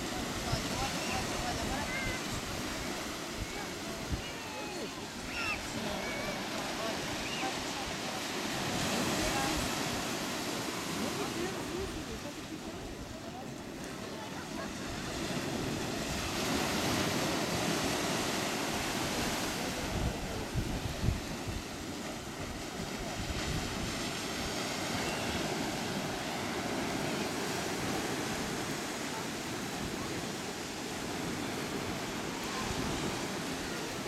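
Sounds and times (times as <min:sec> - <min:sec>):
small waves breaking on beach: 0:00.0 - 0:34.0.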